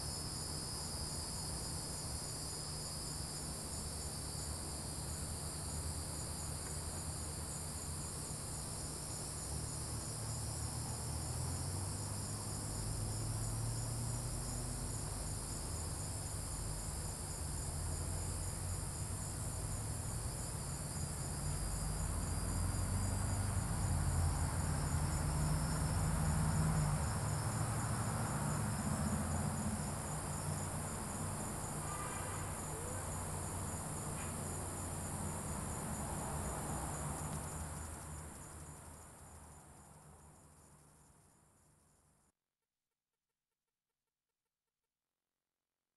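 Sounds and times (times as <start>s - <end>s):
crickets and insects trilling: 0.0s - 41.3s.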